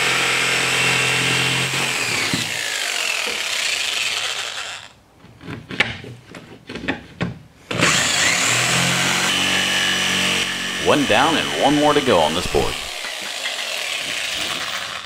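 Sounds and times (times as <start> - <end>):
jigsaw cutting board: 0.0 - 4.9, 7.7 - 15.0.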